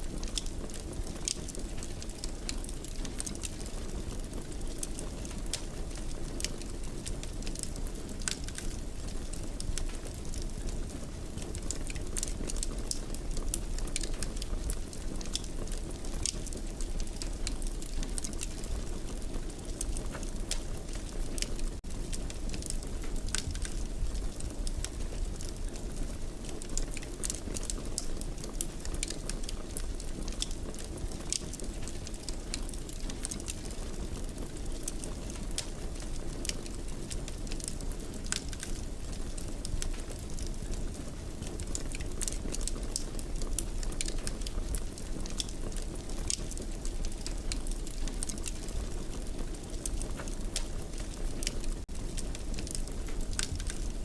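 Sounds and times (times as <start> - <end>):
fire crackling in fireplace: 0.0 - 54.0
low rumble of fire: 0.0 - 54.0.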